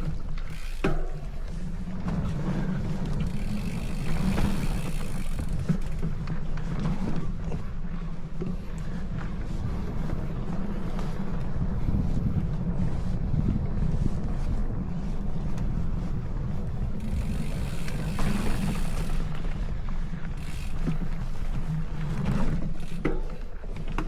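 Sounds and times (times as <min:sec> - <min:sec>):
bike clicks and knocks: 0:00.0 - 0:12.2, 0:16.9 - 0:24.0
wind buffeting microphone: 0:00.0 - 0:24.0.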